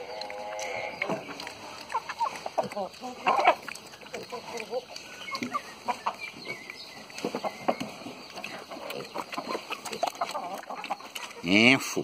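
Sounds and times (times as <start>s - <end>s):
chickens clucking: 0.0s - 12.0s
pigs eating wet mash: 0.0s - 12.0s.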